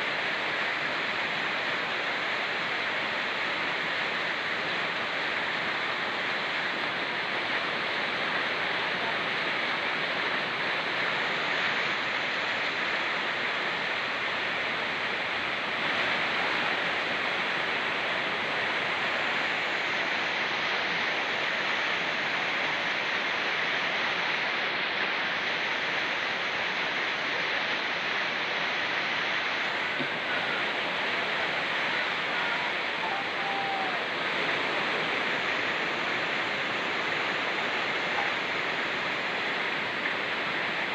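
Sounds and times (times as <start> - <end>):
fast-running river: 0.0 - 40.9
rain falling on forest: 0.0 - 40.9.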